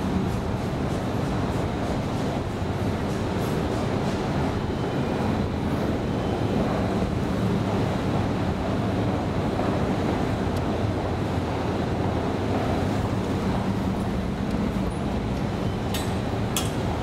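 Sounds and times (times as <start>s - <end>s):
rumble and hiss of station air: 0.0s - 17.0s.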